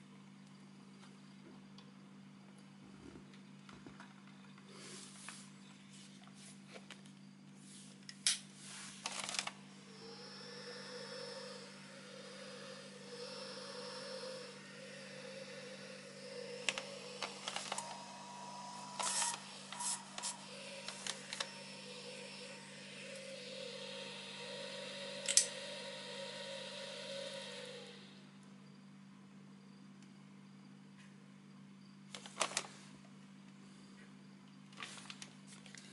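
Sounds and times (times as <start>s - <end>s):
small cooling fan whine: 0.0s - 35.9s.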